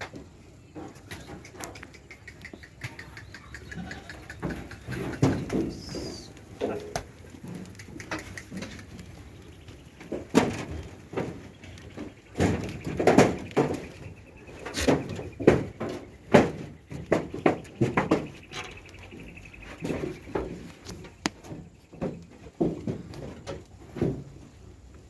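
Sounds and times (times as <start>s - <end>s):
goats knocking and thumping: 0.0s - 24.8s
hooves scuffling: 0.0s - 25.0s.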